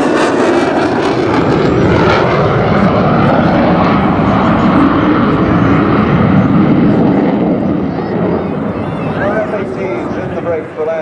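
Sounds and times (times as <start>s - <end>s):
loud jet engine noise: 0.0s - 11.0s.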